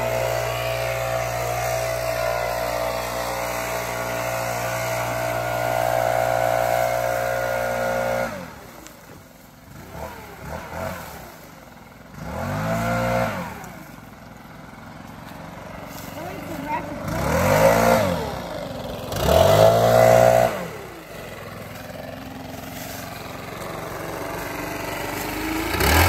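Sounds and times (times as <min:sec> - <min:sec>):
leaf blower revving: 0:00.0 - 0:26.0.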